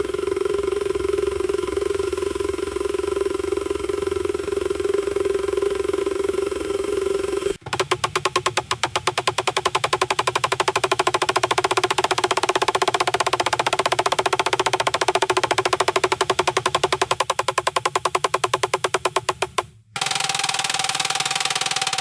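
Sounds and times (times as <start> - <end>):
electric motor pulsing drone: 0.0 - 21.6.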